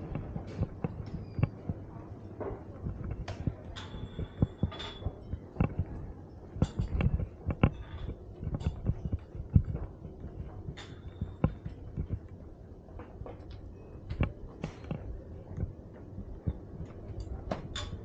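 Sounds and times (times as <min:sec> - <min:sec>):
low thumps and knocks: 0:00.0 - 0:18.0.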